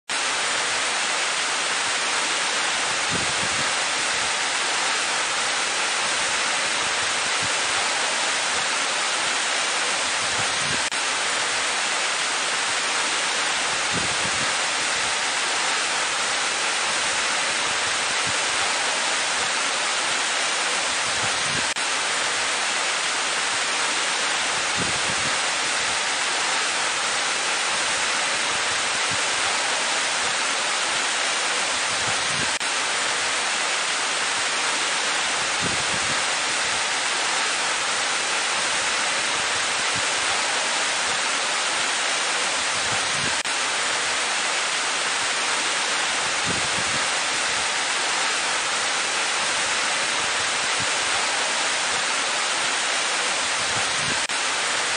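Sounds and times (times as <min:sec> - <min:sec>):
waterfall rushing: 0:00.1 - 0:54.9.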